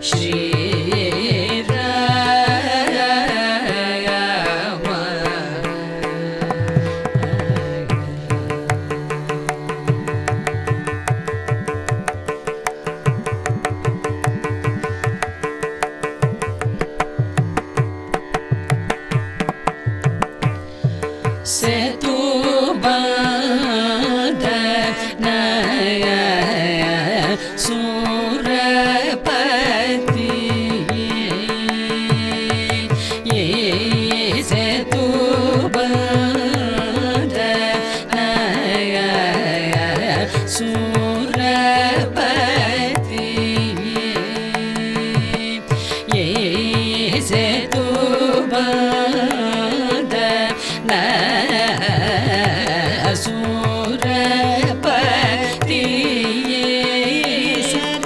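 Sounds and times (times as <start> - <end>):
woman singing: 0.0 - 11.0, 21.4 - 58.0.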